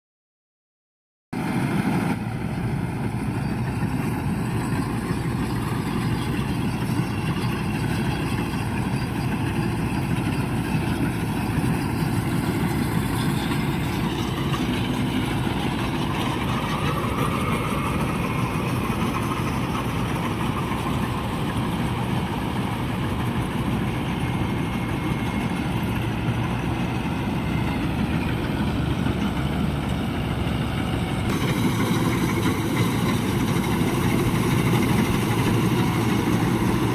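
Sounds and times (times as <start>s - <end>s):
diesel tractor engine running: 1.4s - 36.9s.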